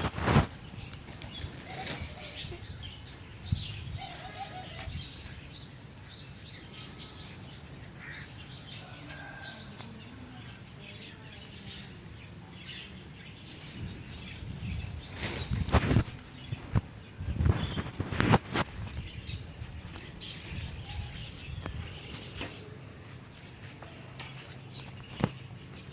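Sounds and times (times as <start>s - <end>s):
birds chirping and calling: 0.0s - 25.9s.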